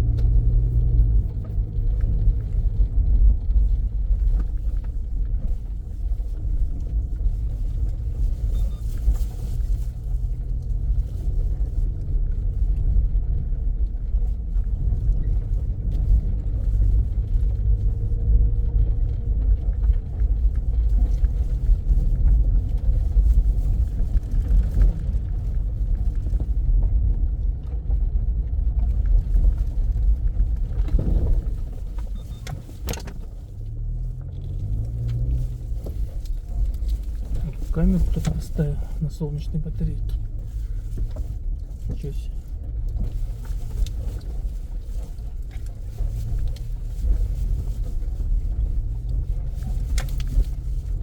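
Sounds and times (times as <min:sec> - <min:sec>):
car engine rumble: 0:00.0 - 0:51.0
road noise: 0:00.0 - 0:51.0.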